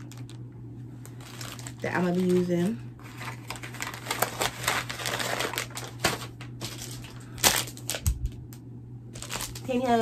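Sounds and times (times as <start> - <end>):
packaging crinkling: 0.0 - 0.4, 1.0 - 8.4, 9.1 - 10.0.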